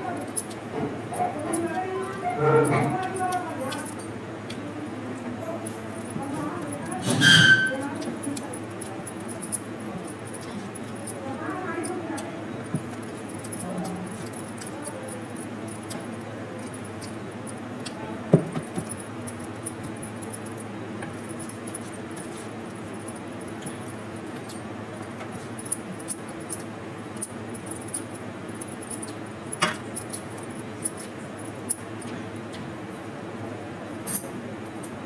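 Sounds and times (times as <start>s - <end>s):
steady background hum: 0.0s - 35.0s.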